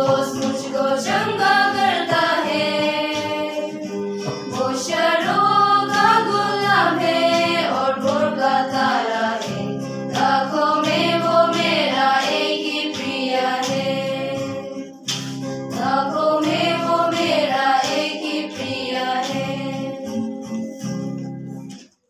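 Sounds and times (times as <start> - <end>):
choir singing a hymn: 0.0 - 15.0, 15.7 - 20.4
acoustic guitar: 0.0 - 22.0.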